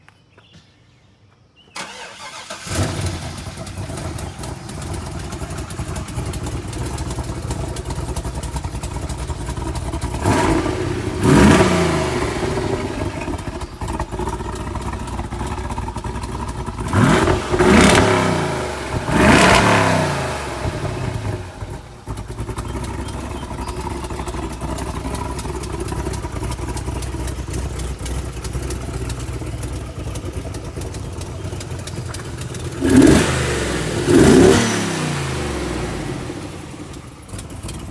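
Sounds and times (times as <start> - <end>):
car engine idling: 1.8 - 37.9
car engine revving: 1.8 - 37.9
engine cranking: 1.8 - 37.9.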